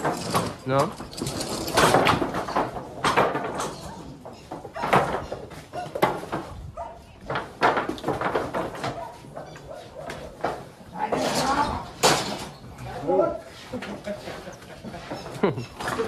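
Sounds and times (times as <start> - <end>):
metal gates and rails banging: 0.0 - 13.2, 14.8 - 16.0.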